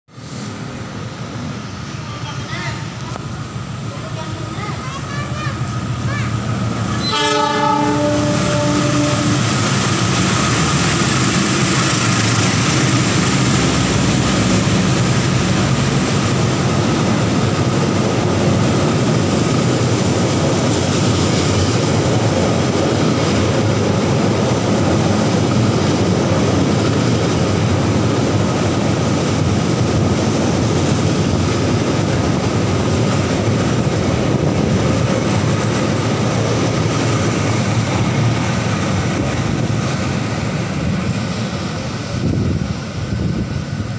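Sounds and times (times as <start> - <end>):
train wheels rushing on rails: 0.1 - 43.9.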